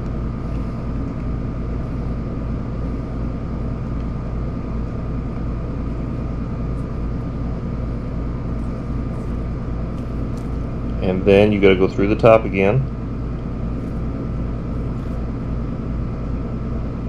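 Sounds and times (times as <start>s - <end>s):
machine low drone: 0.0s - 17.0s
thin steady whine: 0.0s - 17.0s.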